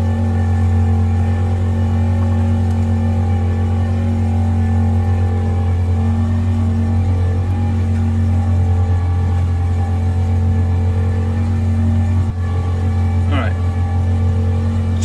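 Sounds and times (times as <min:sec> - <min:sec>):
outboard engine running: 0:00.0 - 0:15.0.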